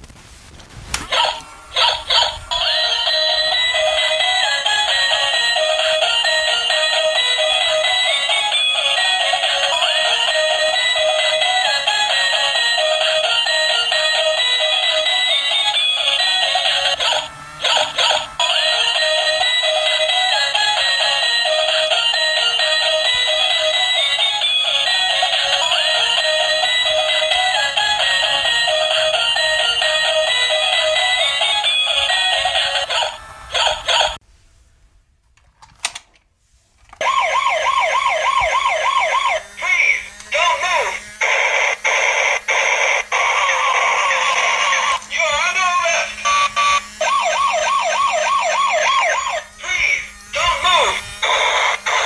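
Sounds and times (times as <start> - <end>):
tinny electronic toy melody: 1.1 - 34.2, 37.1 - 52.0.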